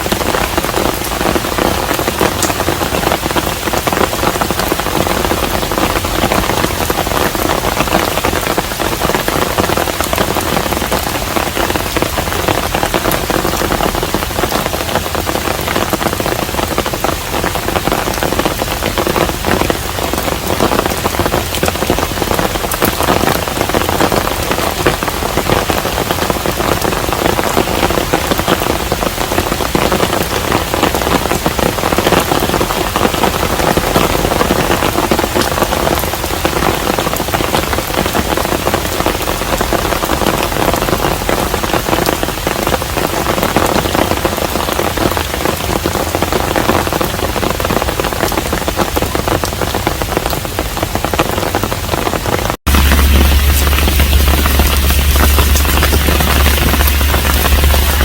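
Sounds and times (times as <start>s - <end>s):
rain falling on a house: 0.0s - 58.0s.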